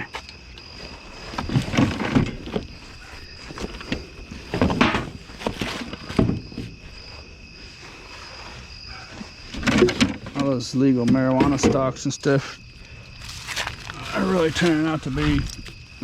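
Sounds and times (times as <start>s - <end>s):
rummaging through trash: 0.0s - 7.2s, 7.8s - 12.0s, 13.2s - 15.8s
high insect tone: 0.0s - 16.0s.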